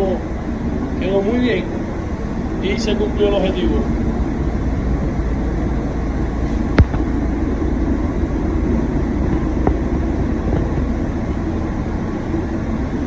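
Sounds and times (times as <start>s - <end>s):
ventilation airflow rumble: 0.0s - 13.0s.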